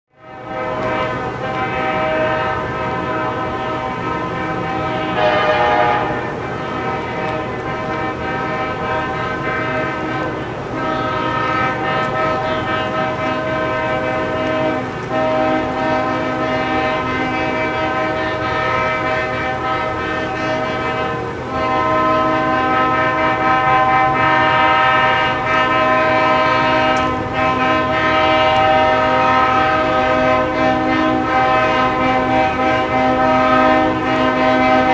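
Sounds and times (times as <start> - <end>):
locomotive air horn blasts: 0.1 - 34.9.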